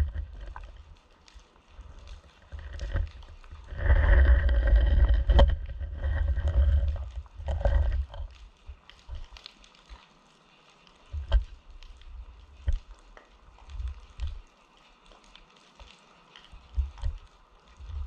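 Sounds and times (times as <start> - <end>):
muffled underwater rumble: 0.0 - 9.9, 11.0 - 15.3, 16.4 - 18.0.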